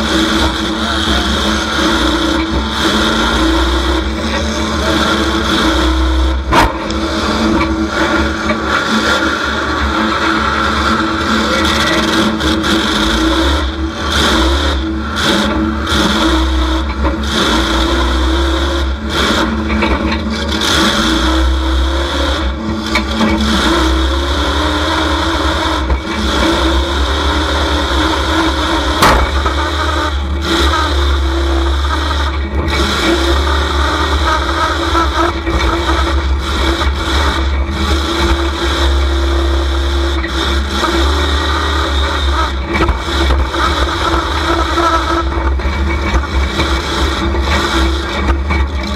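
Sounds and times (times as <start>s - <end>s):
truck engine running loudly: 0.0s - 48.9s.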